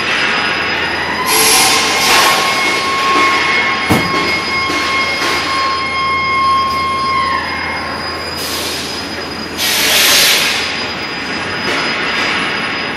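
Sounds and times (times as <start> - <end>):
high mechanical whine: 0.0 - 12.9.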